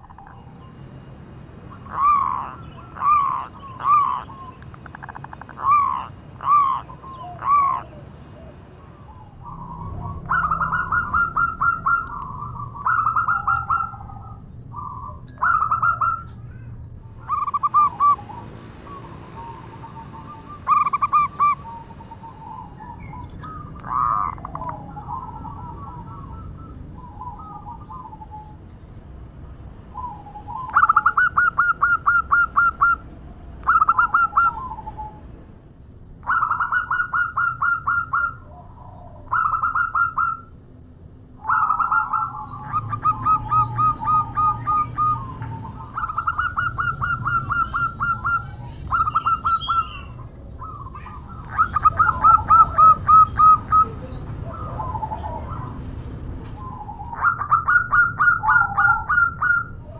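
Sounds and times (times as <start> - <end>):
dove cooing: 1.7 - 16.6, 17.2 - 28.6, 29.9 - 35.2, 36.2 - 40.5, 41.4 - 59.9.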